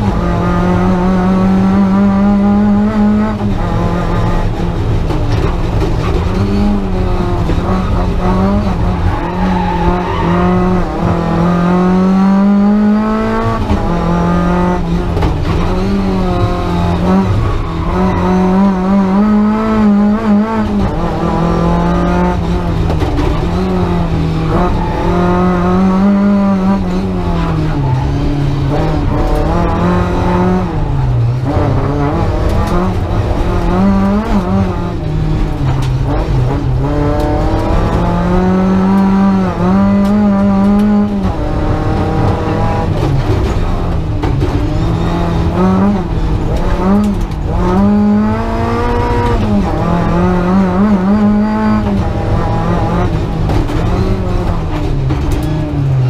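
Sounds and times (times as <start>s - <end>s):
car engine revving in cabin: 0.0s - 56.0s.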